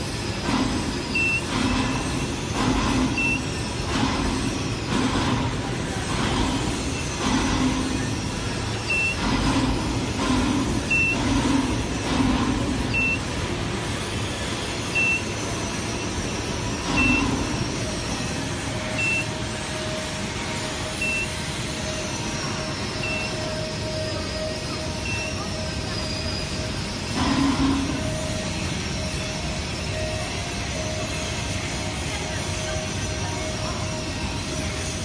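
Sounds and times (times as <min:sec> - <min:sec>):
machinery noise: 0:00.0 - 0:35.0
high warning beeps: 0:00.4 - 0:05.0, 0:06.2 - 0:35.0.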